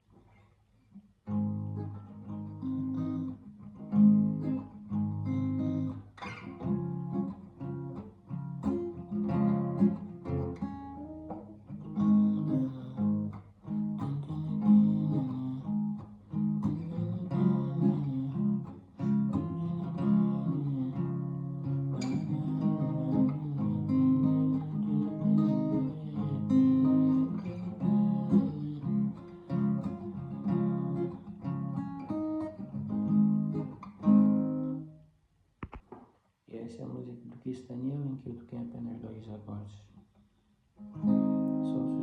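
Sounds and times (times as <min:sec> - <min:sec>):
acoustic guitar chords: 0:01.2 - 0:35.1, 0:40.8 - 0:42.0.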